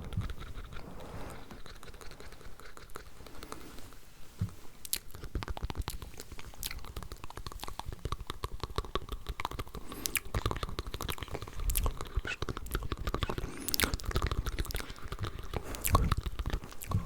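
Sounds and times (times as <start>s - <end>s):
lip and tongue clicks: 0.0s - 3.6s, 4.8s - 17.0s.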